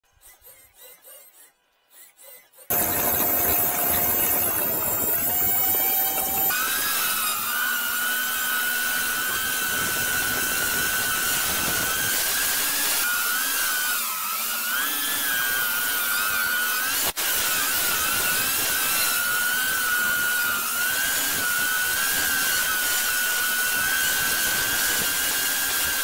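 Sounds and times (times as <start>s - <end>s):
electric motors whining: 0.2s - 26.0s.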